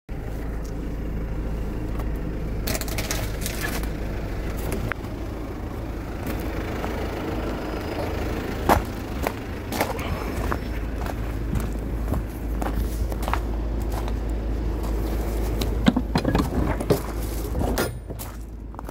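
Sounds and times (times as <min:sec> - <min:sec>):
vehicle engine running: 0:00.1 - 0:18.9.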